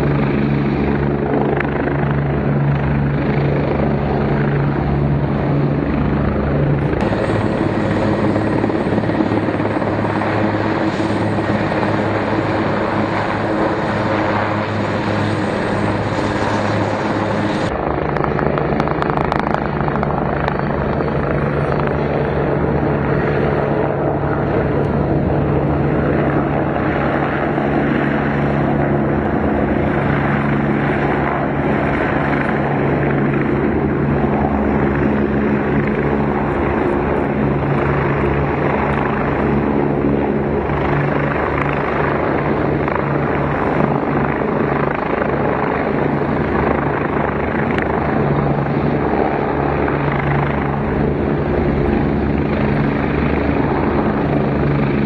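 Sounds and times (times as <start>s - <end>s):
helicopters flying: 0.0s - 55.0s.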